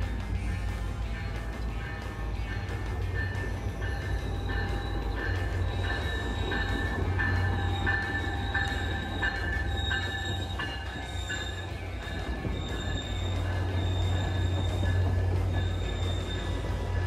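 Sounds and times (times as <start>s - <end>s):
low rumble of train rolling: 0.0s - 17.0s
train bell ringing: 0.0s - 17.0s.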